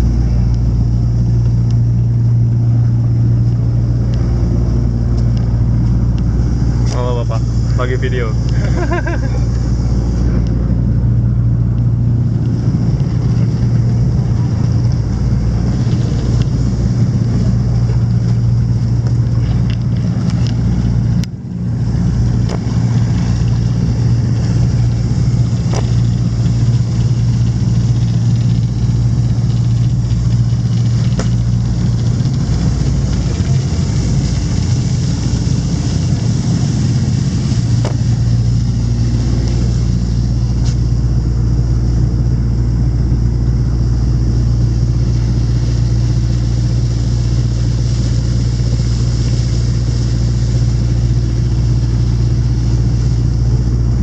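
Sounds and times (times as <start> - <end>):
engine droning: 0.0 - 54.0.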